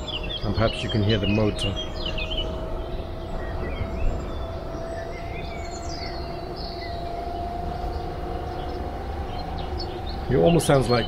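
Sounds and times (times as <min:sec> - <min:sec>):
birds chirping: 0:00.0 - 0:11.0
electric motor whine: 0:00.0 - 0:11.0
low rumble of water and wind: 0:00.0 - 0:11.0.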